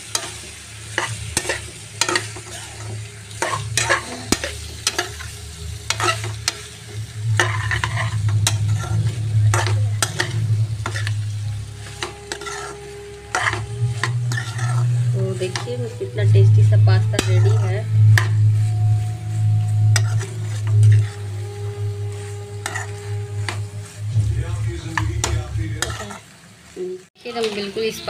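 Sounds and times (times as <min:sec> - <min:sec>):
low steady hum: 0:00.0 - 0:26.2
spatula scraping metal pan: 0:00.0 - 0:26.4
pasta frying: 0:00.0 - 0:28.0.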